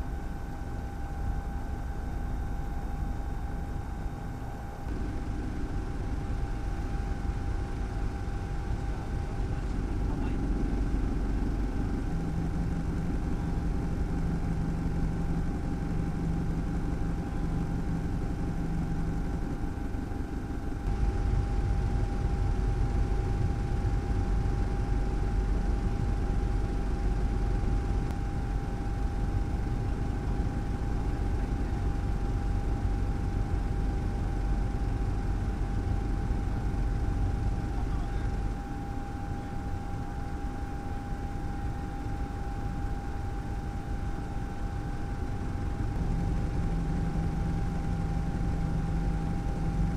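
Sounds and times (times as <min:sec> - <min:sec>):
motor rumble and hum: 0:00.0 - 0:49.9.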